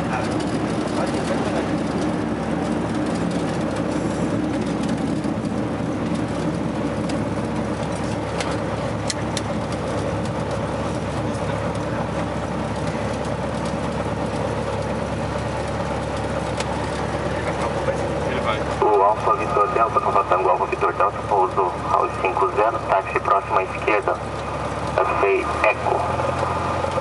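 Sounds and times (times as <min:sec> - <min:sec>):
aircraft engine droning: 0:00.0 - 0:27.0.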